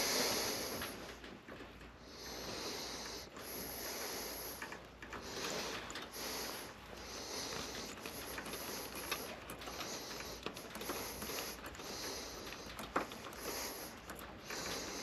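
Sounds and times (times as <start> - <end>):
man breathing heavily: 0.0 - 1.1, 2.0 - 15.0.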